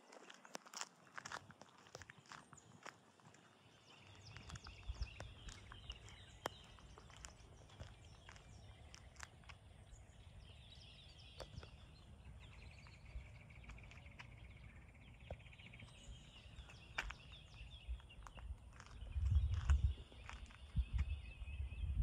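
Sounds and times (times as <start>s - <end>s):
light footsteps: 0.0s - 10.2s, 11.4s - 14.6s, 15.2s - 21.2s
birds singing: 1.9s - 22.0s.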